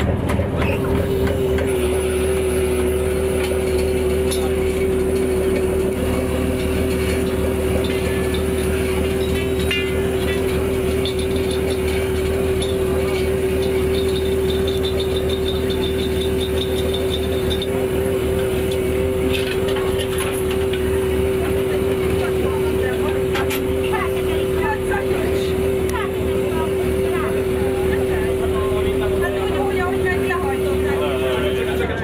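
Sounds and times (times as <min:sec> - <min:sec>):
boat diesel engine droning: 0:00.0 - 0:32.0.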